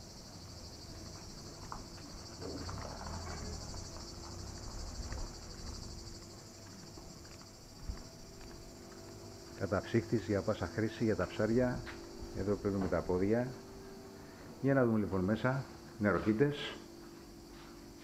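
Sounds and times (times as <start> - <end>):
cicadas singing: 0.0 - 18.0.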